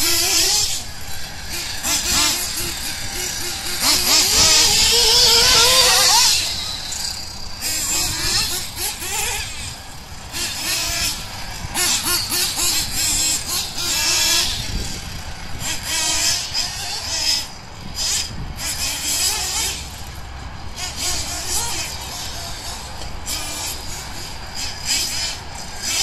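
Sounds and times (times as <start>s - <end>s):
nitro engines revving: 0.0s - 26.0s.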